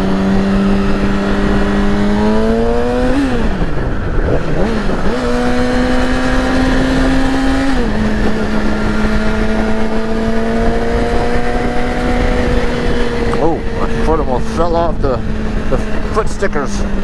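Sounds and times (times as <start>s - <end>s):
motorcycle engine at high revs: 0.0s - 17.0s
wind rushing over microphone: 0.0s - 17.0s.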